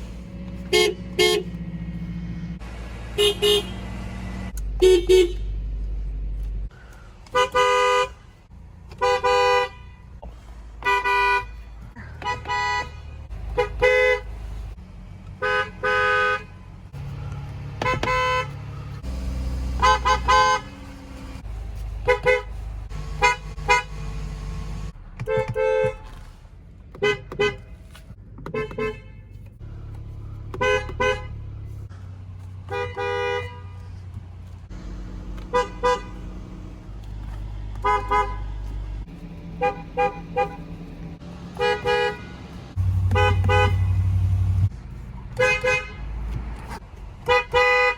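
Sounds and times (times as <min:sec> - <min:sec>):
car horns honking: 0:00.0 - 0:06.2, 0:07.2 - 0:31.9, 0:32.5 - 0:47.9
engine and road rumble: 0:00.0 - 0:47.9.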